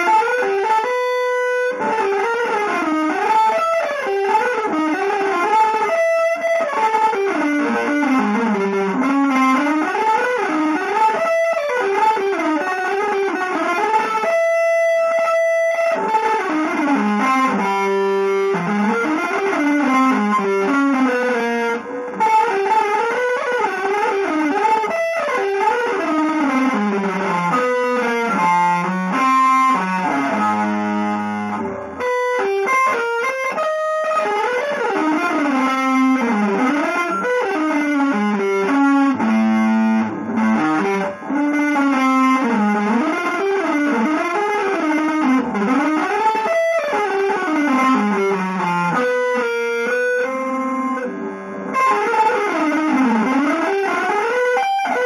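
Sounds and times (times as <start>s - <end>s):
electric guitar jazz melody: 0.0s - 55.0s.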